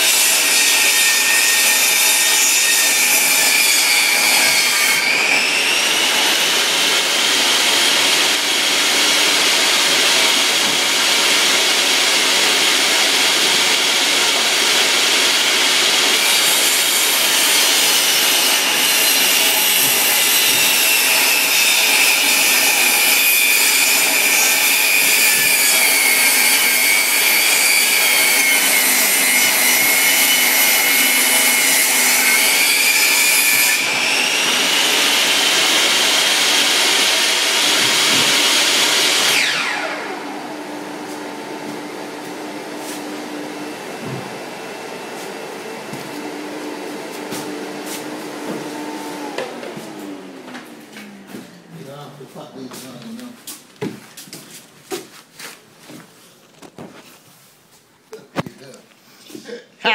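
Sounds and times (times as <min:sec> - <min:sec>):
table saw whine: 0:00.0 - 0:51.6
saw cutting wood: 0:00.0 - 0:53.6.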